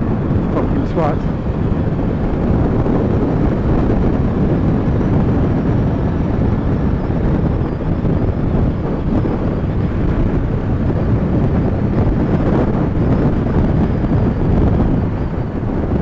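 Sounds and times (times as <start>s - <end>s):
wind rush on helmet microphone: 0.0s - 16.0s.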